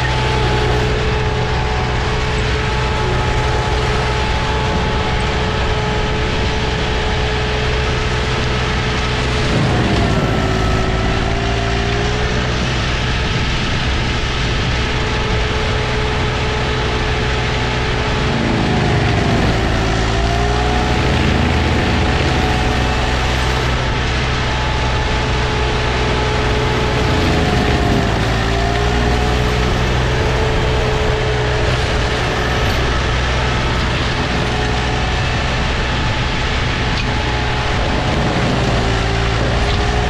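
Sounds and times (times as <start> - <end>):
mower engine running hard: 0.0 - 40.0.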